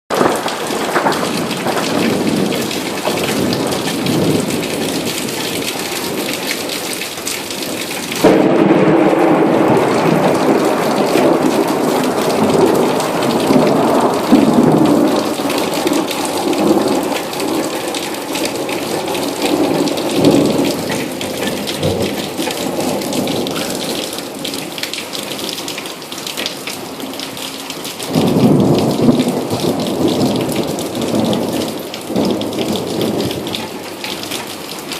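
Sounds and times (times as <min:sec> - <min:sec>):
thunder rumbling: 0:00.1 - 0:25.6, 0:28.0 - 0:34.4
heavy rain: 0:00.1 - 0:34.9.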